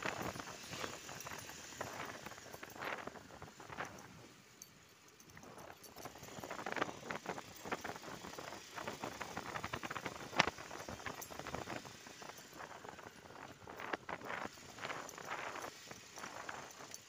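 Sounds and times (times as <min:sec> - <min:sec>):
motorcycle rattling and knocking: 0:00.0 - 0:04.3, 0:04.9 - 0:17.0.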